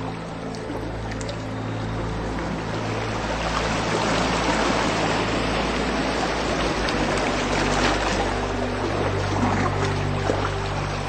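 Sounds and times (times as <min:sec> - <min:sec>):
low sustained drone: 0:00.0 - 0:11.0
rushing water-like noise: 0:00.0 - 0:11.0.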